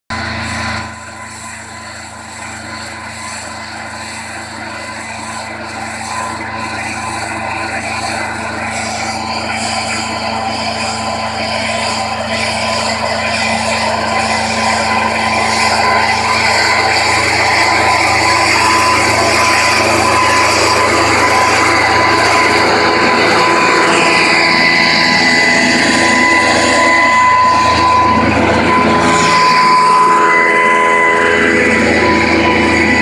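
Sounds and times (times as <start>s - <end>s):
mist blower engines droning: 0.1s - 33.0s.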